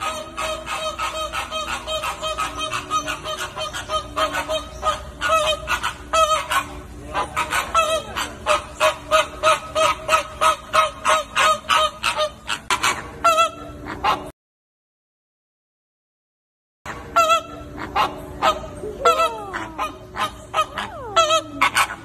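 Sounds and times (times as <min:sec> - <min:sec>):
flock of birds honking: 0:00.0 - 0:13.7, 0:17.2 - 0:22.0.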